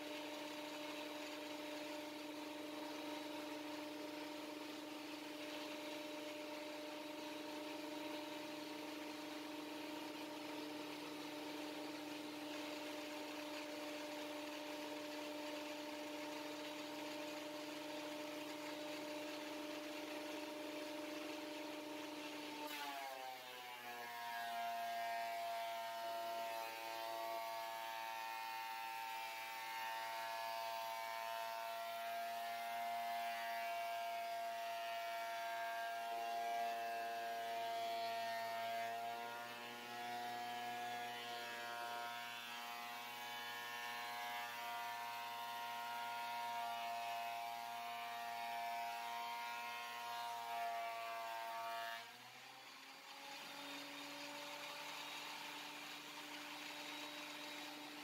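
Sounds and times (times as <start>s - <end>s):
thickness planer planing a board: 0.0s - 58.0s.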